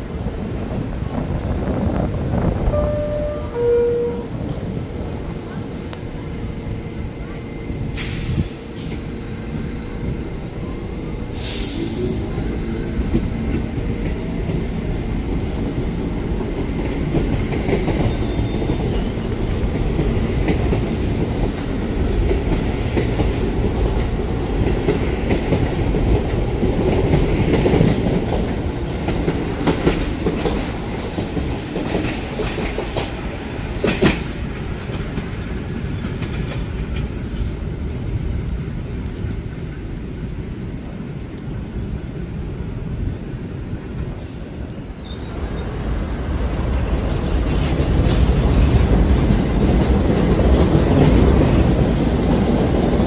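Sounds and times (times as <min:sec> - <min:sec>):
subway train rumbling past: 0:00.0 - 0:53.0.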